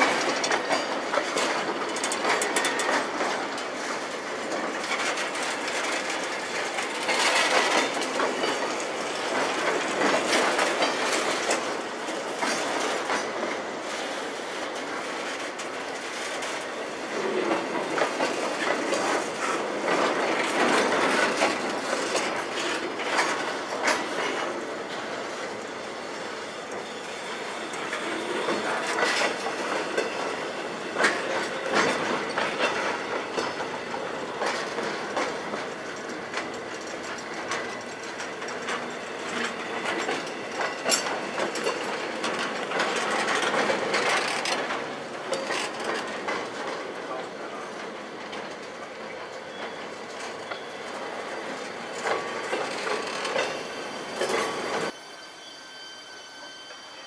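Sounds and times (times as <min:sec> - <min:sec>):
train rumble: 0:00.0 - 0:55.0
train wheels clacking on rails: 0:00.0 - 0:55.0.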